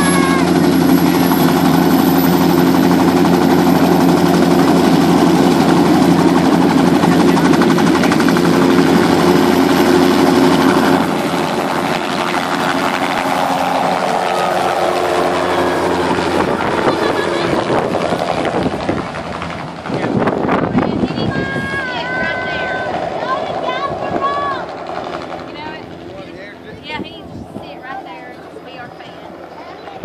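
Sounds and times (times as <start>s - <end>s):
helicopter rotor hum: 0.0s - 30.0s.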